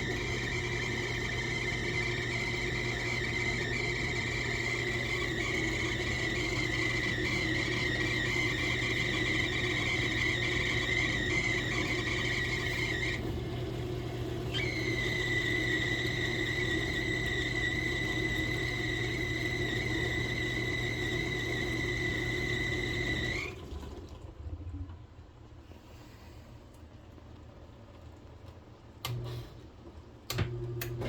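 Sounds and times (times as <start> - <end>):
dishwasher low hum: 0.0 - 31.0.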